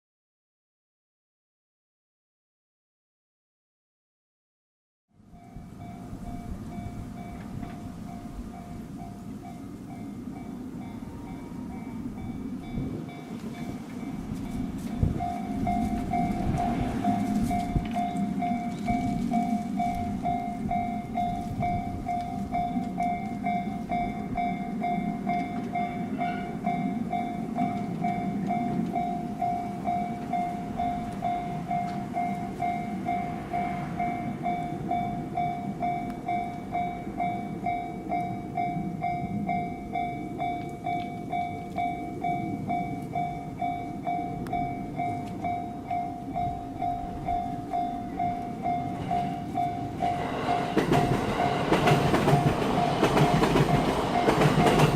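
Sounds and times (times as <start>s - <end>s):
low rumble of a train: 5.1s - 54.9s
railroad crossing bell dinging: 5.2s - 54.9s.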